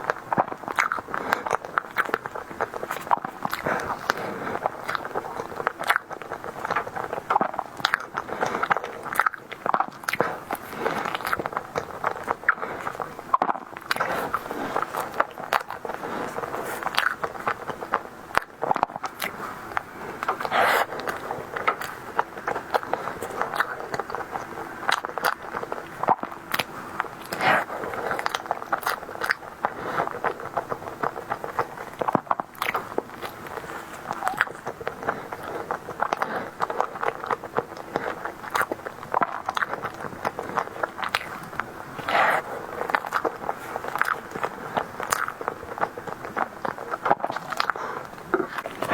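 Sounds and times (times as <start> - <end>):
mouth clicks and smacks: 0.0 - 48.9
wet chewing: 0.0 - 48.9.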